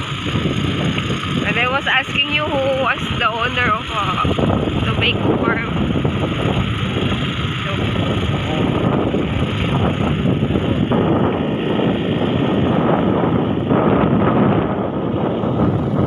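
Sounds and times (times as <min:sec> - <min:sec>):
road noise: 0:00.0 - 0:16.0
vehicle engine: 0:00.0 - 0:16.0
wind on microphone: 0:00.0 - 0:16.0.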